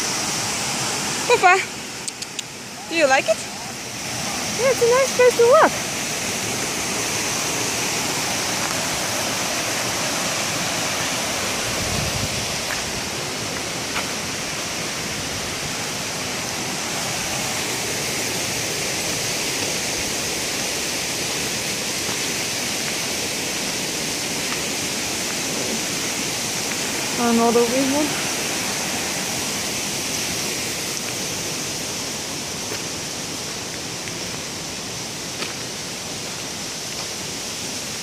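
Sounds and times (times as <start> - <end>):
stream rushing over stones: 0.0 - 38.0.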